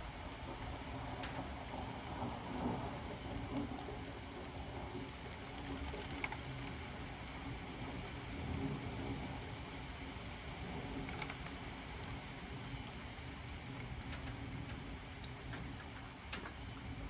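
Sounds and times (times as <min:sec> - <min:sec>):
steady rain downpour: 0:00.0 - 0:17.0.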